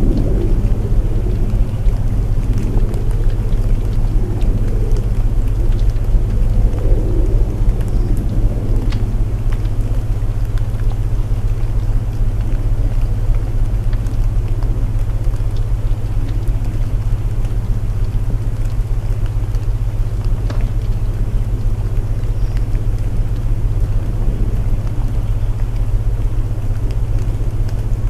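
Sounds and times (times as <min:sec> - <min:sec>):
low hum of binaural tones: 0:00.0 - 0:28.0
rain hiss: 0:00.0 - 0:28.0
wood fire crackling: 0:00.0 - 0:28.0.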